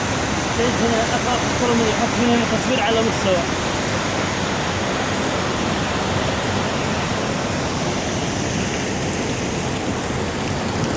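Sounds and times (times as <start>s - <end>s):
flowing water rushing: 0.0s - 10.9s.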